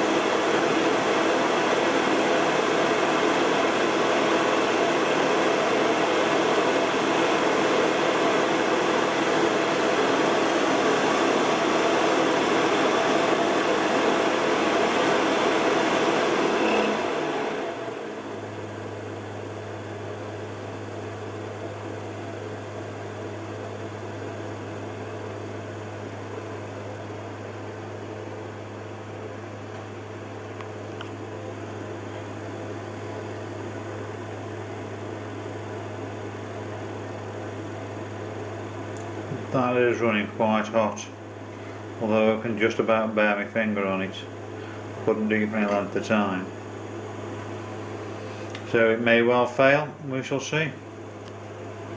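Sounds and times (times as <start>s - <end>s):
heater fan whirring: 0.0s - 51.9s
low electrical hum: 0.0s - 51.9s.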